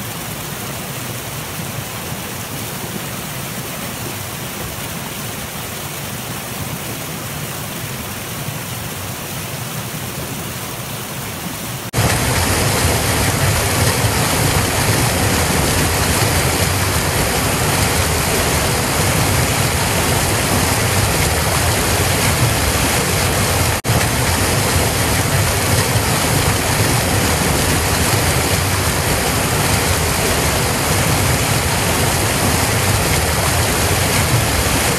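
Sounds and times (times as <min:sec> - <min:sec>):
water rushing over boulders: 0:00.0 - 0:34.9.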